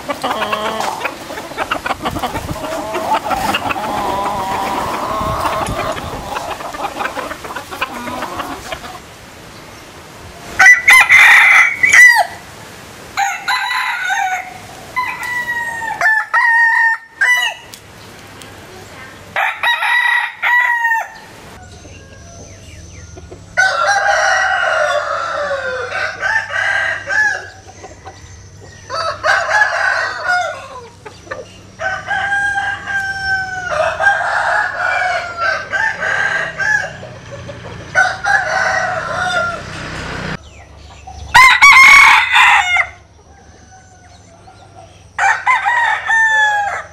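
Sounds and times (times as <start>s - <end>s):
roosters crowing: 0.0s - 9.2s, 10.4s - 17.8s, 19.3s - 46.9s.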